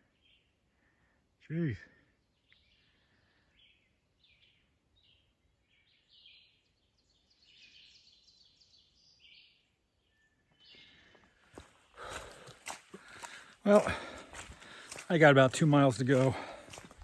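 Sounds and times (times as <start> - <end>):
faint bird song: 0.0 - 17.0.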